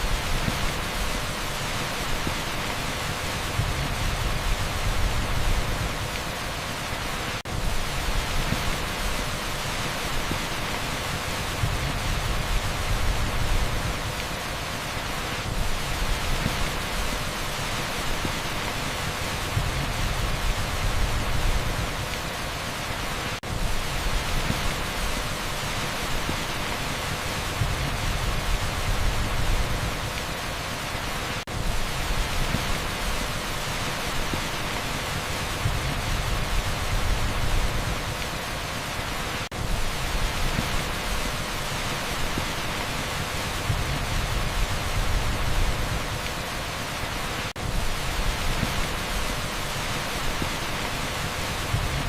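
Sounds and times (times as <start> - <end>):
torrential rain on asphalt: 0.0 - 52.0.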